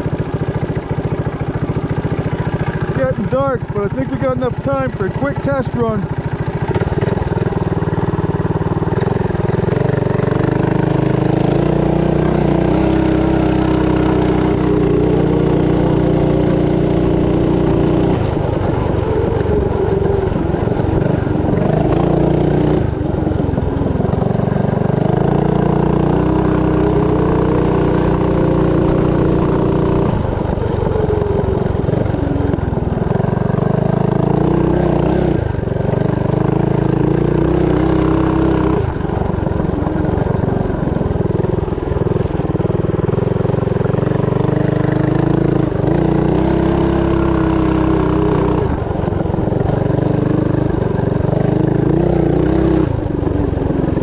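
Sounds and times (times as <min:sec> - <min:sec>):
mini bike engine revving: 0:00.0 - 0:54.0.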